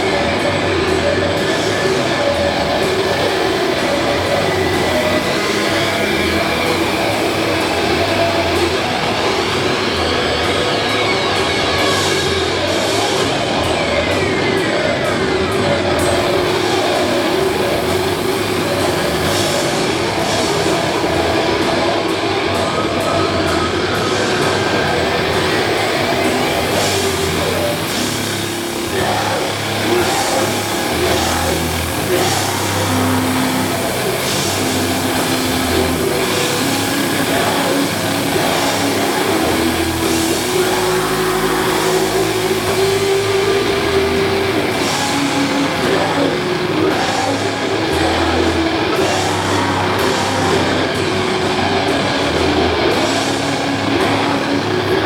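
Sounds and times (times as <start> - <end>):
distorted guitars and bass: 0.0 - 55.0
drums: 0.0 - 55.0.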